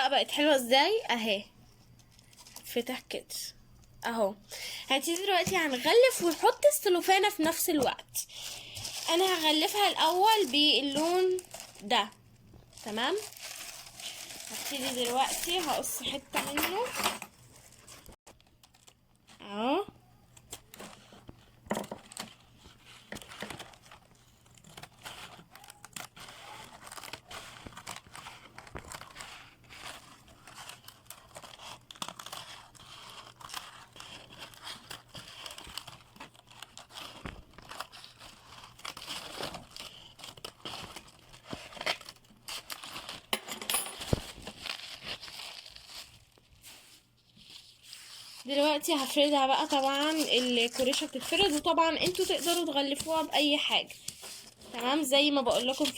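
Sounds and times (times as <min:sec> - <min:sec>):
crepe paper crinkling: 0:04.6 - 0:43.4, 0:44.0 - 0:55.9.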